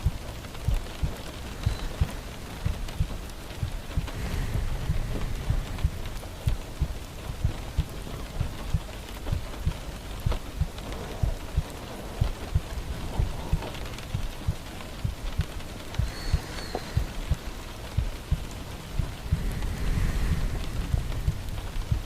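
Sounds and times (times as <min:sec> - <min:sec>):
heavy raindrops thudding: 0:00.0 - 0:22.0
steady rain falling: 0:00.0 - 0:22.0.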